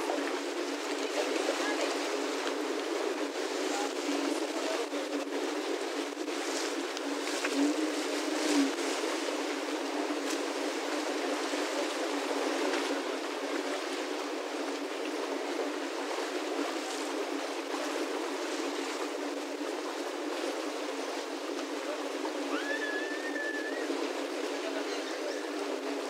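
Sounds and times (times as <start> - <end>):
lake water lapping against rocks: 0.0 - 26.0.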